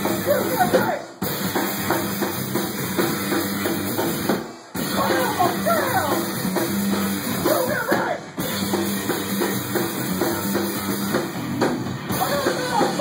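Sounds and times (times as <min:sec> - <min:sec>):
rock drum kit beat: 0:00.0 - 0:13.0.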